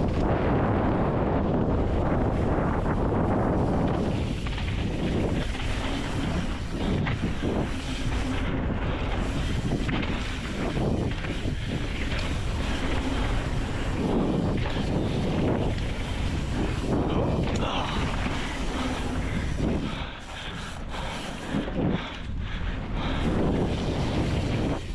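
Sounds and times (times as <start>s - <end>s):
tyres rolling on dirt: 0.0s - 24.9s
wind on microphone: 0.0s - 24.9s.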